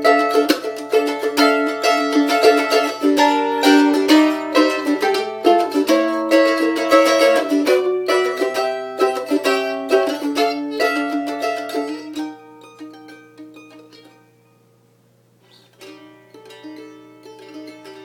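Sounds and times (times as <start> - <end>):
mandolin picked notes and chords: 0.0 - 14.8, 15.4 - 18.0.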